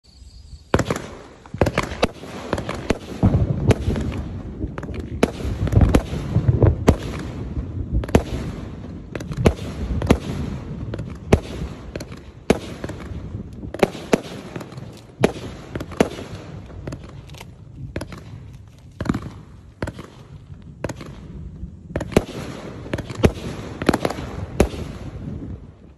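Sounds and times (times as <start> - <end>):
fireworks launching and bursting: 0.4 - 25.9.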